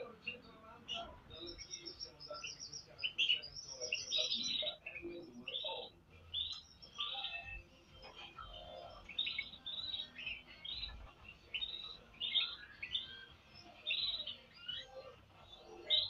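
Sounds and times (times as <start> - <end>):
canaries chirping: 0.0 - 16.0.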